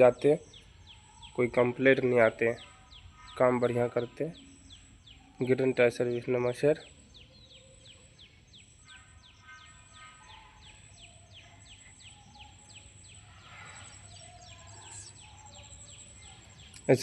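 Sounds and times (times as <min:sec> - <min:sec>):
bird chirping: 0:00.0 - 0:17.0
steady high-pitched tone: 0:00.0 - 0:17.0.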